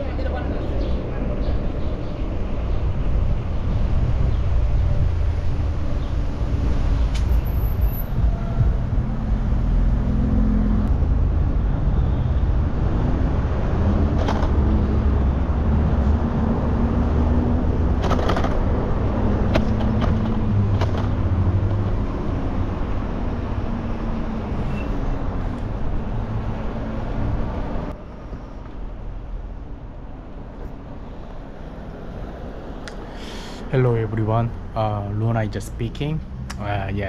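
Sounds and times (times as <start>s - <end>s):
traffic engines rumbling: 0.0s - 37.0s.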